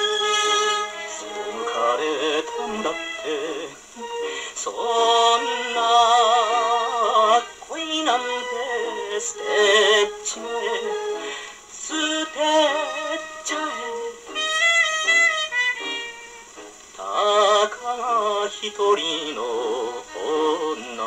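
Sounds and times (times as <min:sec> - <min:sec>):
old song from phonograph: 0:00.0 - 0:21.0
record surface hiss: 0:00.0 - 0:21.0.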